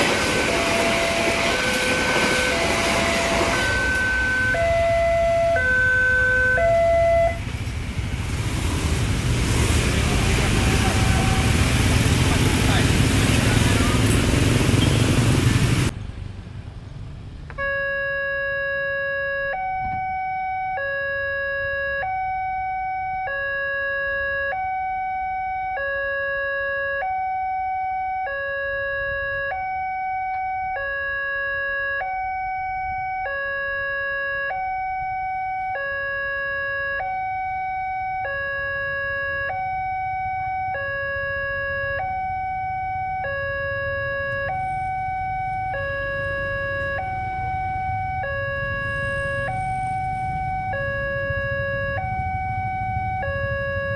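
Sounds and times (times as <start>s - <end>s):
two-tone crossing alarm: 0.0s - 8.1s, 17.5s - 53.9s.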